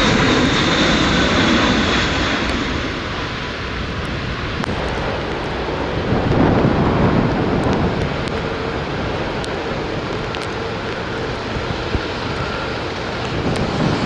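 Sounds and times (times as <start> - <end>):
jet engines whining: 0.0 - 14.0
wind rumbling on microphone: 0.0 - 14.0.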